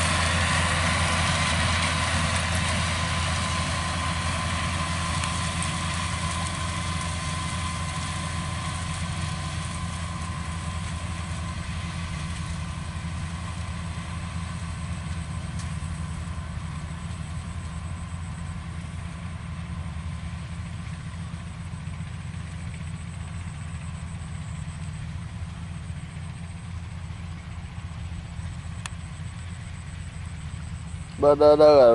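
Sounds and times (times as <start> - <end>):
tractor diesel engine humming: 0.0 - 31.9.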